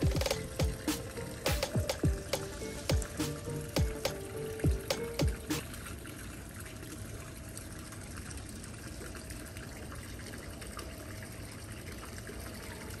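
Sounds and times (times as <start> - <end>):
fountain water splashing into pool: 0.0 - 13.0.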